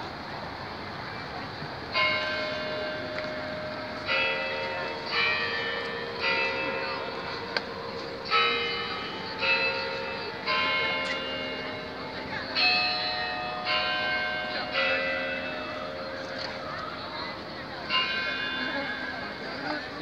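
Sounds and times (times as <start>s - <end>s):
tower bells chiming a slow tune: 1.9s - 20.0s.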